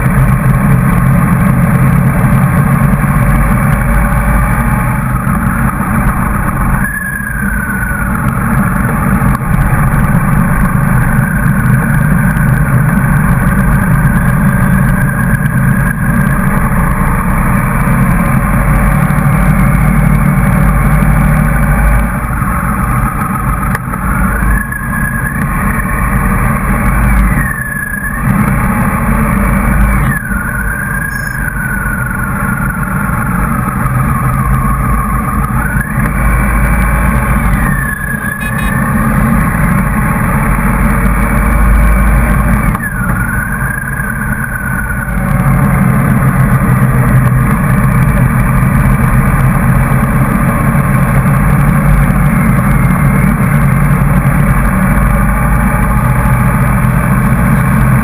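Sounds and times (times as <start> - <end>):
motorcycle engine: 0.0 - 58.0
road noise: 0.0 - 58.0.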